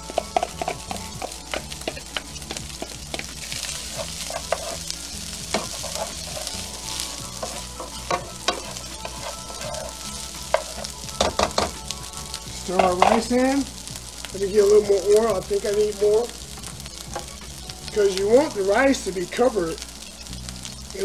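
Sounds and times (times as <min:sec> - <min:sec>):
rice sizzling in oil: 0:00.0 - 0:21.0.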